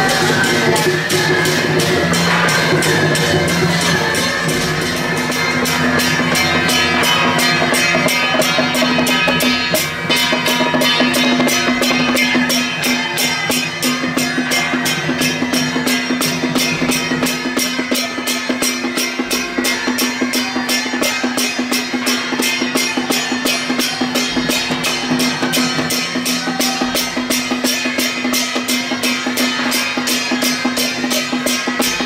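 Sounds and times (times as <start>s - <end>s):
drums beating an even rhythm: 0.0s - 32.0s.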